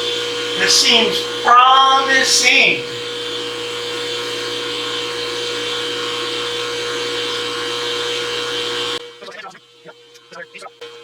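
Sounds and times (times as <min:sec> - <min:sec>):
motor whine over hum: 0:00.0 - 0:11.0.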